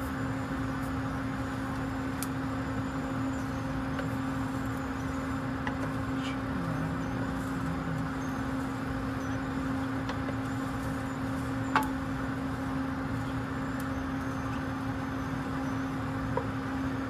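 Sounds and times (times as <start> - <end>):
steady hum with hiss: 0.0 - 17.0.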